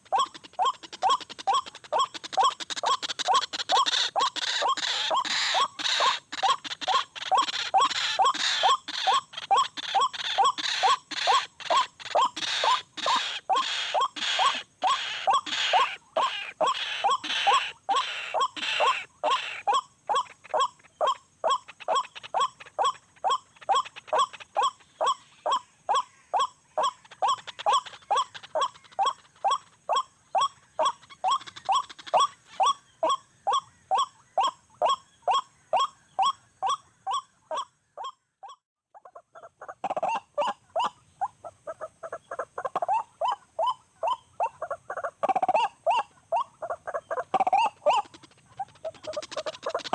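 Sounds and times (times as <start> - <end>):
waterhen repeated call: 0.0 - 37.7, 38.4 - 49.9.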